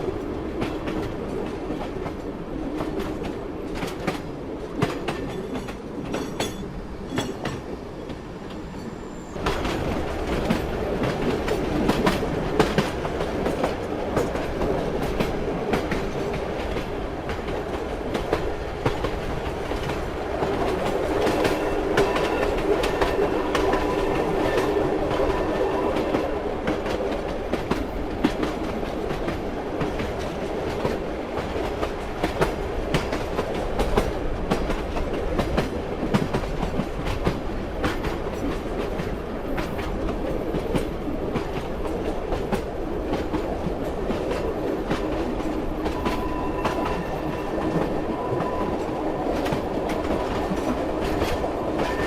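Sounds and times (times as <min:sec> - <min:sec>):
wheels clacking on rail joints: 0:00.0 - 0:08.3, 0:09.4 - 0:52.0
train rumbling on rails: 0:00.0 - 0:52.0.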